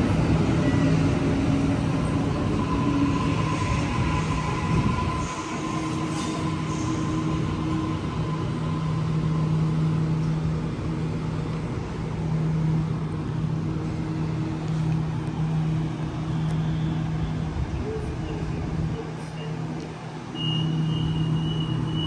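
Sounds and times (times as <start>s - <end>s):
electric train humming: 0.0s - 22.0s
train whine pulling away: 0.0s - 22.0s.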